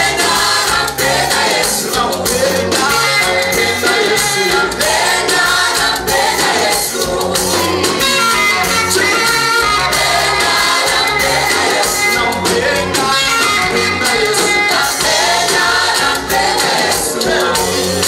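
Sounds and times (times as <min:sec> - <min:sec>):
band with danceable beat: 0:00.0 - 0:18.0
bass: 0:00.0 - 0:18.0
choir singing gospel song: 0:00.0 - 0:18.0.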